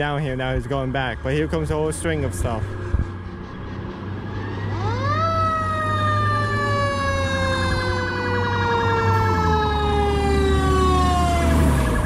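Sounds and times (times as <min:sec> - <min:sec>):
heavy vehicle engines rumbling: 0:00.0 - 0:12.0
fire engine siren: 0:02.0 - 0:12.0.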